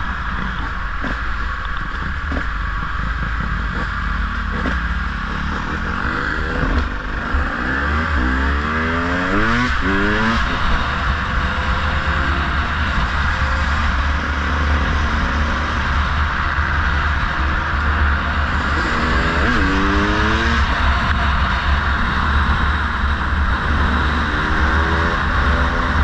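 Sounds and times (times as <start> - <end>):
dirt bike engine accelerating: 0.0 - 26.0.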